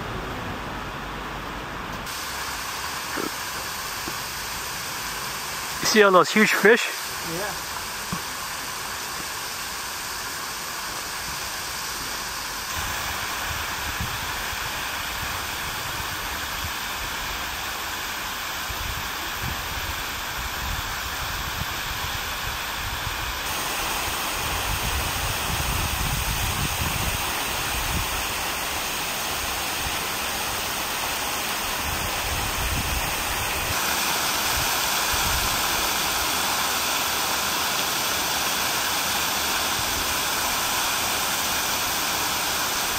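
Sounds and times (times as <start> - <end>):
water splashing from fountains: 2.0 - 42.9.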